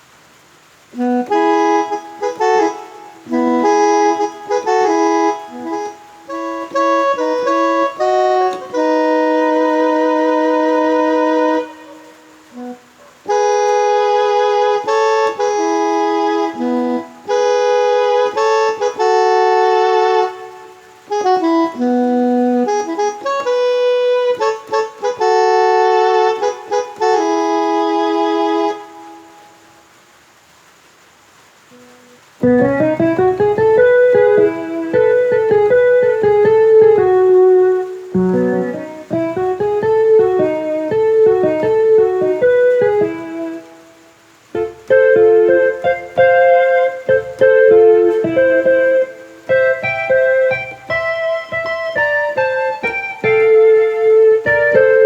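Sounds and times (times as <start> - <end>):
keyboard playing accordion-like melody: 0.9 - 29.8, 31.7 - 55.0.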